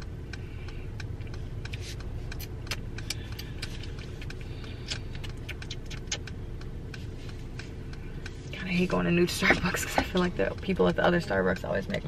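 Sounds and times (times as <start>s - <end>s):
car idling hum: 0.0s - 12.0s.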